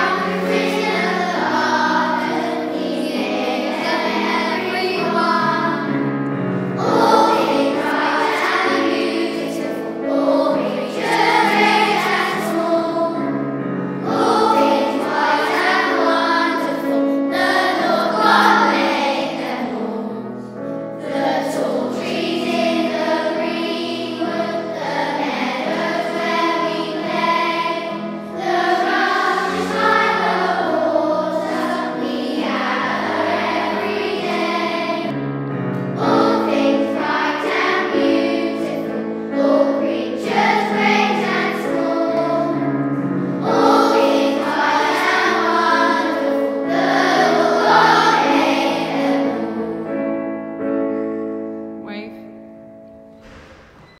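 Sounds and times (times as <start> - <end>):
children's choir singing: 0.0 - 50.8, 53.2 - 54.0
low musical accompaniment: 0.0 - 53.8.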